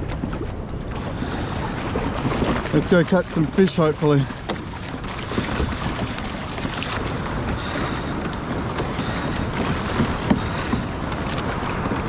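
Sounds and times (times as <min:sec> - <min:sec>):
light water splashes: 0:00.0 - 0:12.0
water washing around kayak: 0:00.0 - 0:12.0
wind rumbling on microphone: 0:00.0 - 0:12.0.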